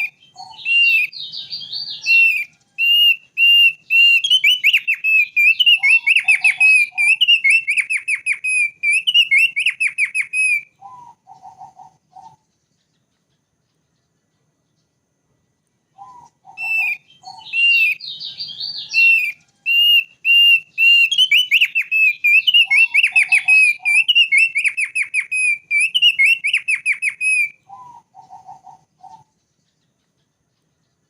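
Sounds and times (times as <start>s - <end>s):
bird singing whistled notes: 0.0s - 15.0s, 15.8s - 31.0s.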